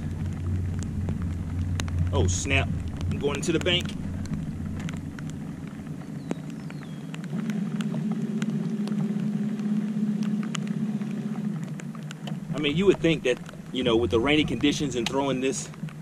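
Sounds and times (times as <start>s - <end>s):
electric trolling motor humming: 0.0s - 16.0s.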